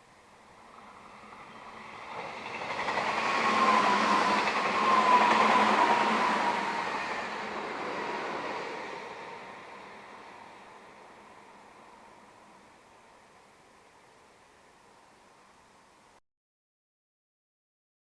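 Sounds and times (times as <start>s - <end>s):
electric train passing: 0.0s - 16.2s
high whine of train: 0.0s - 16.2s.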